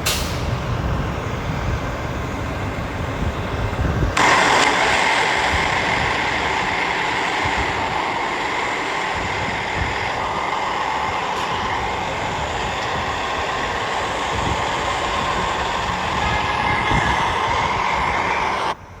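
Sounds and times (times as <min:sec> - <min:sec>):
vehicle running noise: 0:00.0 - 0:19.0.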